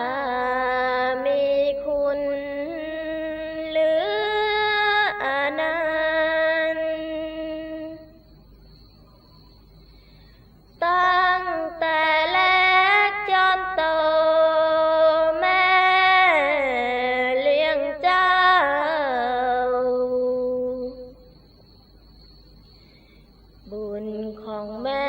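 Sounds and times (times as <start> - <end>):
woman chanting verse: 0.0 - 8.2, 10.8 - 21.3, 23.7 - 25.0.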